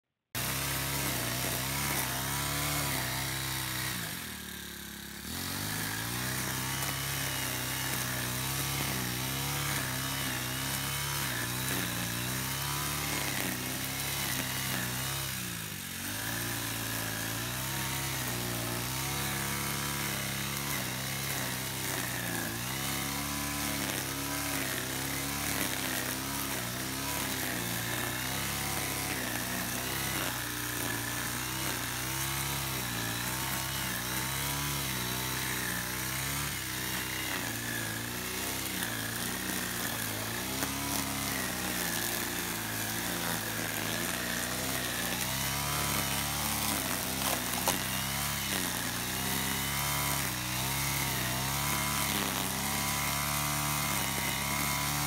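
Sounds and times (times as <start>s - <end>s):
brush cutter engine cutting grass: 0.4s - 55.0s.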